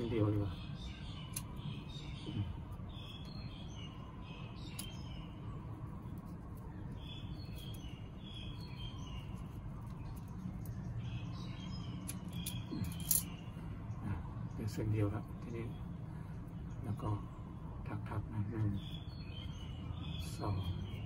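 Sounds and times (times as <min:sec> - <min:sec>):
birds chirping: 0:00.0 - 0:21.0
low background rumble: 0:00.0 - 0:21.0.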